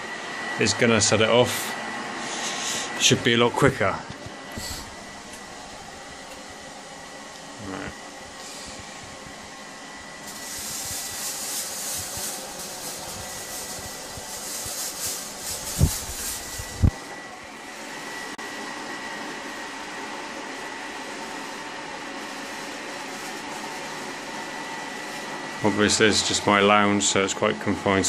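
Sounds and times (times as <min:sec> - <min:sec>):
fan noise: 0:00.0 - 0:28.0
haze machine hissing: 0:00.0 - 0:28.0.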